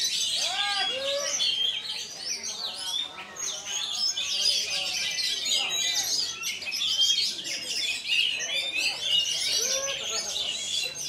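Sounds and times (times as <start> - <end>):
bird singing chirps and trills: 0.0 - 11.0.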